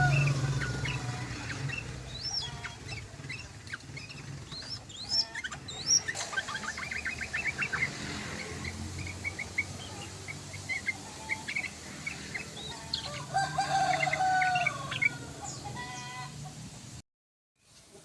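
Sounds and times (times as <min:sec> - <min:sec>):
low drawn-out bird call: 0:00.0 - 0:16.3
bird chirping song: 0:00.0 - 0:16.6.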